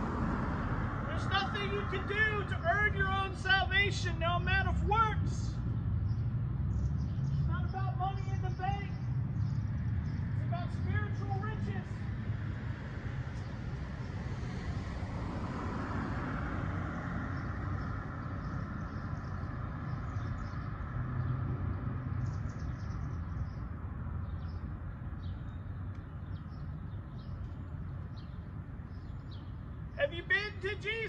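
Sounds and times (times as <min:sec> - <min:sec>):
vehicle passing: 0:00.0 - 0:25.3
birds chirping: 0:01.0 - 0:14.3, 0:16.4 - 0:31.0.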